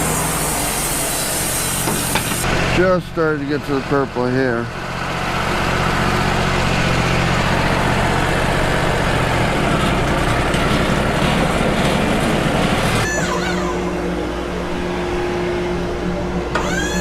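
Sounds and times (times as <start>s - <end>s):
band sawmill cutting log: 0.0s - 15.8s, 16.5s - 17.0s.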